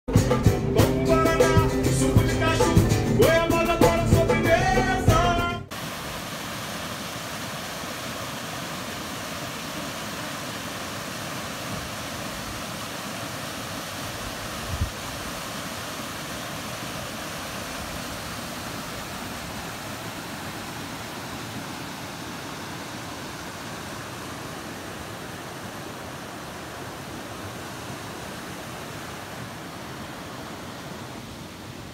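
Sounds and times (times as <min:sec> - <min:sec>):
waterfall rushing: 0:05.7 - 0:31.9.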